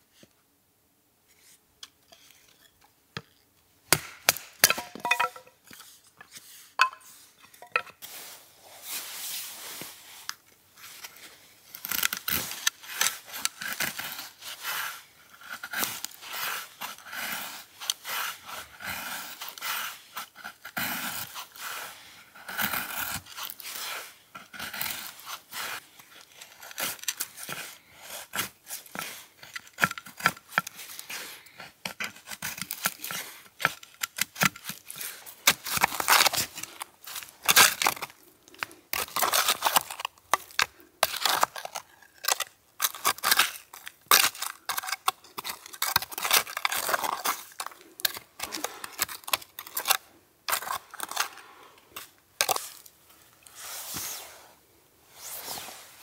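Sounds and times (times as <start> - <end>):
rustling scraping and crunching: 4.6 - 22.2, 22.8 - 56.0.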